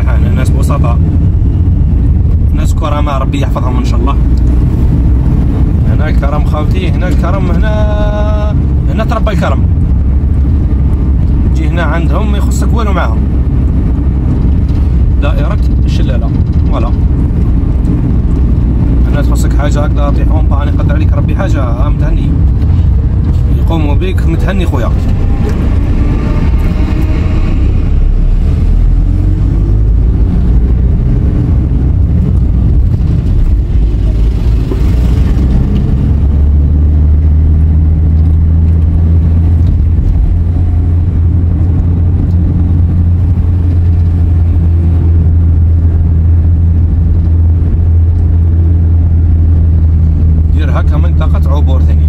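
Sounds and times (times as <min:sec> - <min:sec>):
car engine and tyre drone: 0:00.0 - 0:52.0.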